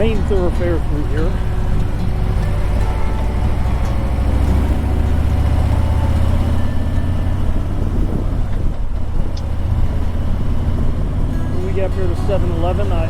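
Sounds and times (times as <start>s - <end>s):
motorcycle engine rumbling: 0.0s - 13.0s
road and wind noise: 0.0s - 13.0s.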